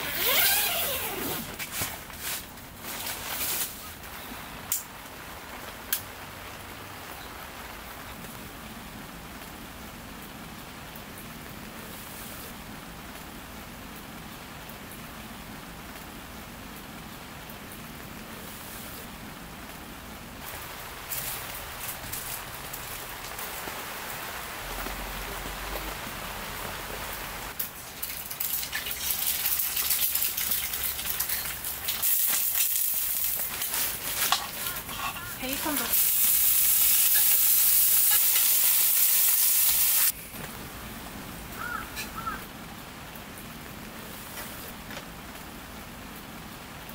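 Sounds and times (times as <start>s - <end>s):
patter of rain drops: 0.0s - 46.9s
steady rain falling: 0.0s - 46.9s.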